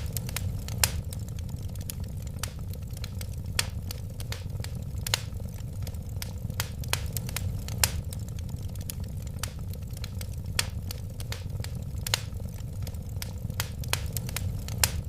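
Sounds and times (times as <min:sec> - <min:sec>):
fire crackling and popping: 0:00.0 - 0:15.0
fire low rumble: 0:00.0 - 0:15.0.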